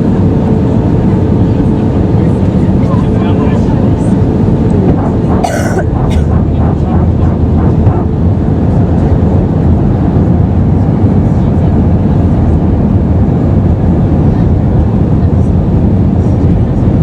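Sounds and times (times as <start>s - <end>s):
airflow around fuselage: 0.0s - 17.0s
airplane cabin engine rumble: 0.0s - 17.0s.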